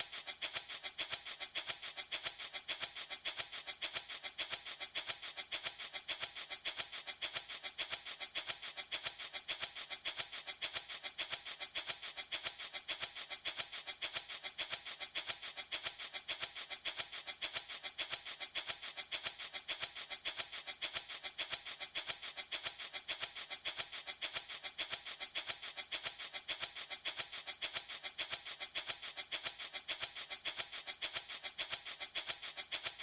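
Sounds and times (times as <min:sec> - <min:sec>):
wooden baby rattle shaken: 0:00.0 - 0:33.0.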